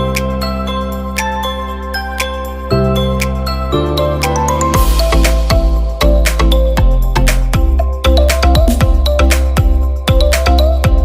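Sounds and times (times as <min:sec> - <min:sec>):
instrumental music with sustained chords: 0:00.0 - 0:11.0.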